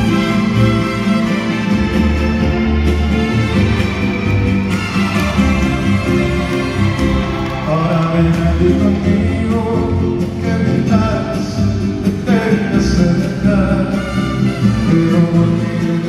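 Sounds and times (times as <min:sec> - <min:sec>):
live band playing a ballad: 0:00.0 - 0:16.0.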